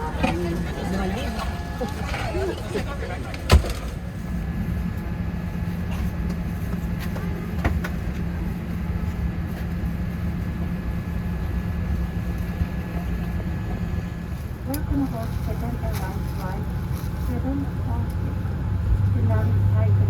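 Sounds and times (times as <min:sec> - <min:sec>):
airplane cabin hum: 0:00.0 - 0:20.0.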